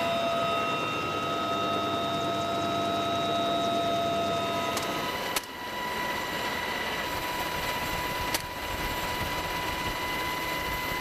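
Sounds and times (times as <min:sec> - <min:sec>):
helicopter turbine and rotor noise: 0:00.0 - 0:11.0.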